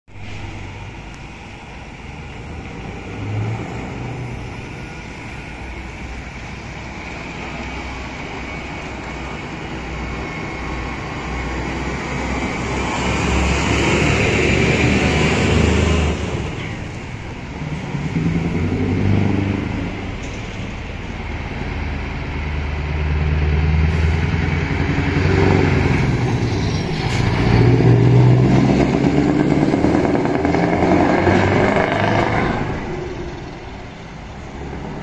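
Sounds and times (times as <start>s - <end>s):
diesel truck engine: 0.1s - 35.0s.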